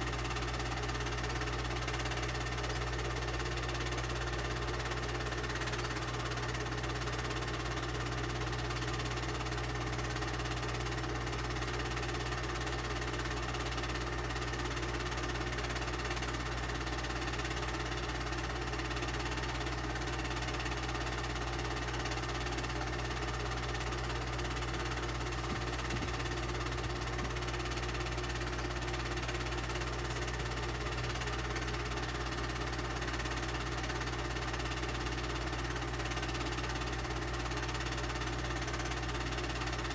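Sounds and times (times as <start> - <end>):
movie projector whirring: 0.0 - 39.9.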